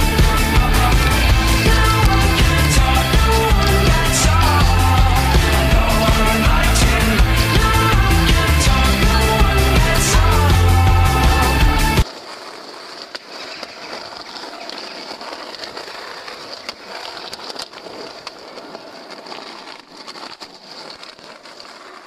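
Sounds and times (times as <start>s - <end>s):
skateboard wheels rolling on pavement: 0.0s - 22.0s.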